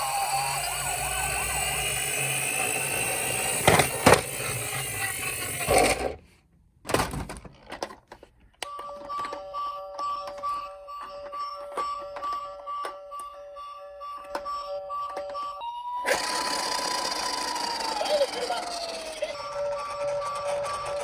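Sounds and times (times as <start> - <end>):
toy sirens wailing: 0.0 - 5.4, 8.6 - 21.0.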